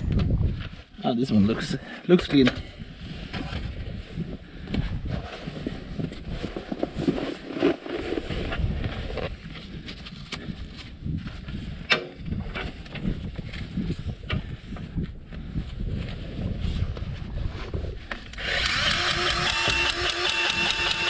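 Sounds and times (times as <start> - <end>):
wind buffeting microphone: 0.0 - 0.8, 2.8 - 7.0, 8.2 - 20.0.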